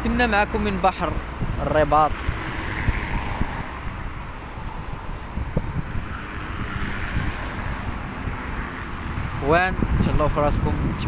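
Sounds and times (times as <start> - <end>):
wind on microphone: 1.0 - 11.0.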